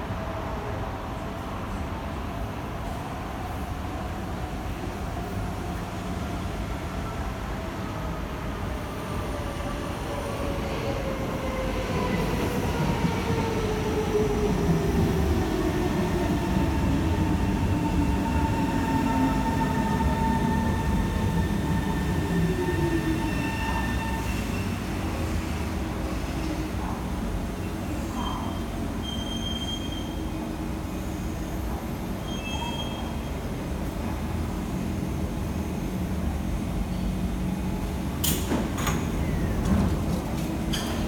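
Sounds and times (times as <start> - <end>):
rumble of train wheels: 0.0 - 41.0.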